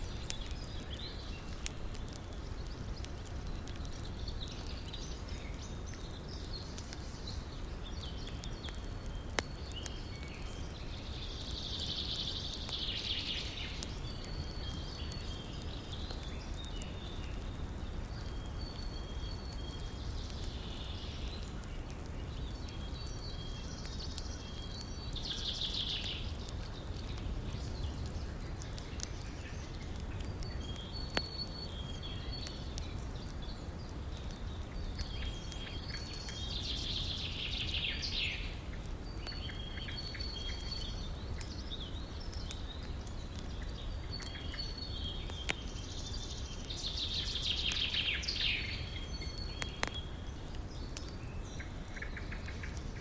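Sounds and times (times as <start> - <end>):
campfire popping: 0.0 - 53.0.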